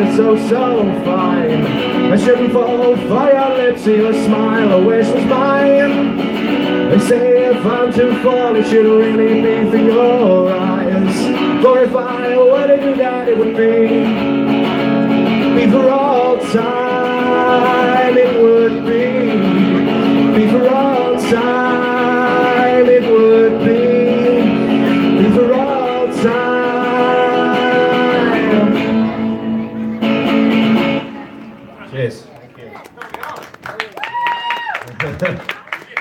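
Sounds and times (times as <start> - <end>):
person singing: 0.0 - 14.3, 15.2 - 30.3
electric guitar chords: 0.0 - 32.1.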